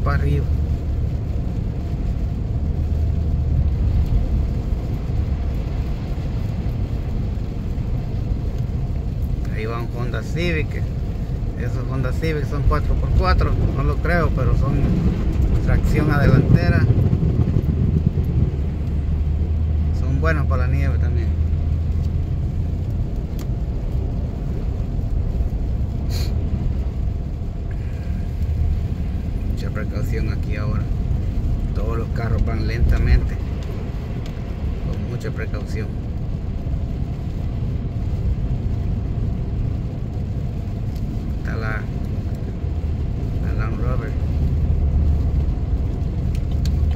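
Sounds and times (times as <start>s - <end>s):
car driving on snow: 0.0s - 46.9s.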